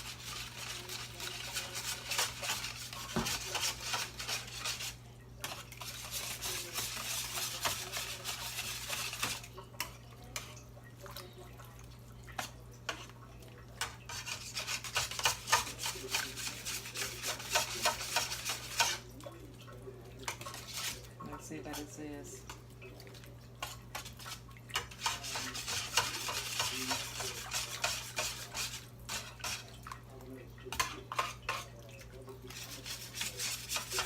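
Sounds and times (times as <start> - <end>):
spatula scraping a pan: 0.0 - 10.6, 12.4 - 13.2, 13.8 - 19.2, 20.3 - 22.0, 23.6 - 30.0, 30.7 - 34.0.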